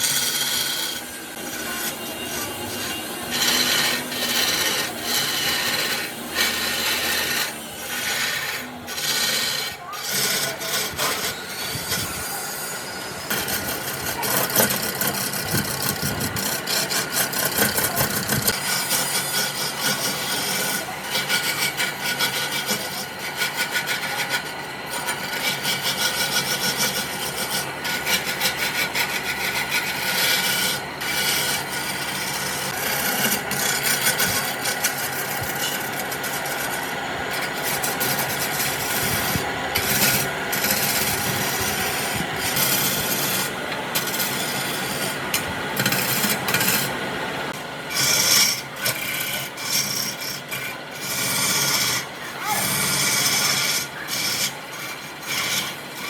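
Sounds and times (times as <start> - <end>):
sanding wood: 0.0 - 56.0.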